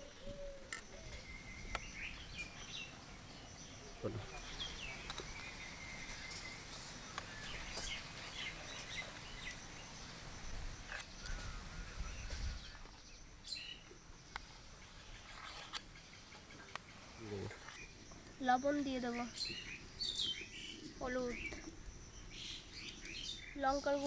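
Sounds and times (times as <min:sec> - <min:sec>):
low outdoor background noise: 0:00.0 - 0:24.0
small birds chirping: 0:00.0 - 0:24.0.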